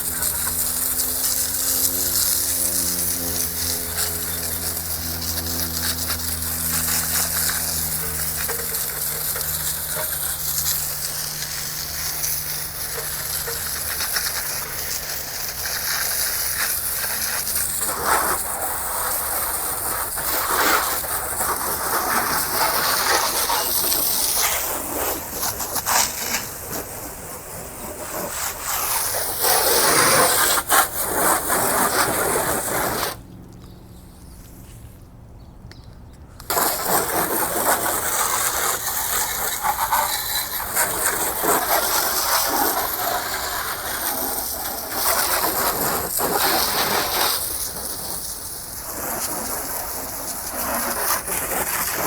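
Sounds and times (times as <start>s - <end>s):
pressure washer spraying water: 0.0s - 33.3s, 36.4s - 52.0s.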